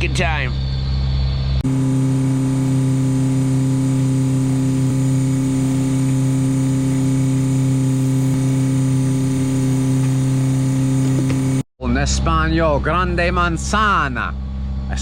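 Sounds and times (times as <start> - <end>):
boat diesel engine running: 1.6 - 15.0.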